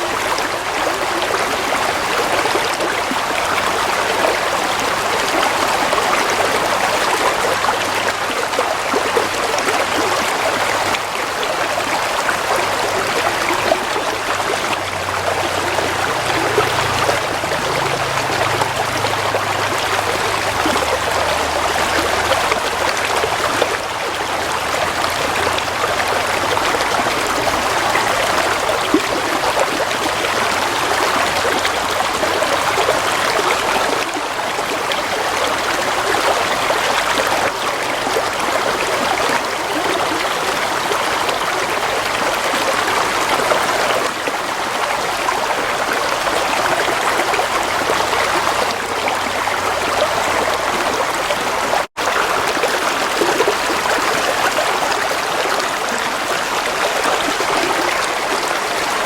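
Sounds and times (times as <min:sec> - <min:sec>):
stream of water flowing: 0:00.0 - 0:59.0.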